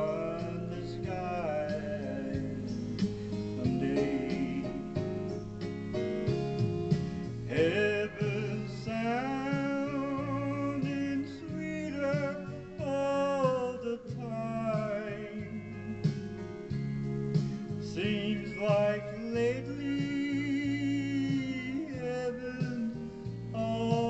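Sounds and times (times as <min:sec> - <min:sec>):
country gospel music: 0:00.0 - 0:24.0.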